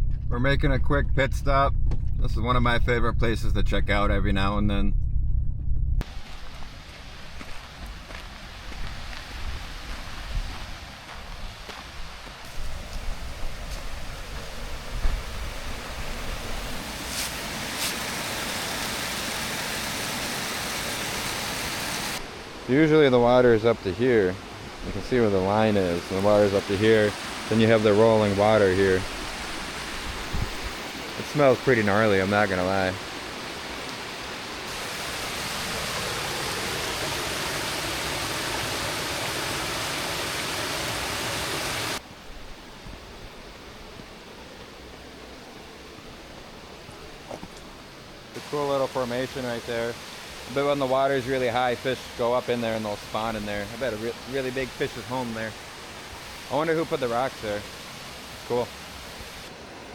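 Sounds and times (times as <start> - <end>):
stream water rushing: 6.0 - 42.2, 44.8 - 59.9.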